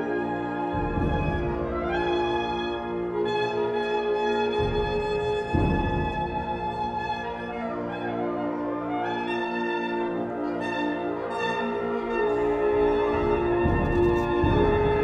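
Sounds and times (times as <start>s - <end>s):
wind band sustained chords: 0.0s - 15.0s.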